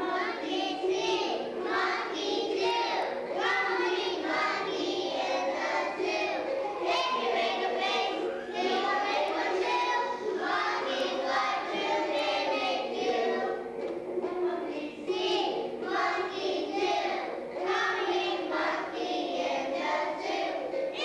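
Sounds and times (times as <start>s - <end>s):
children singing together: 0.0s - 21.0s.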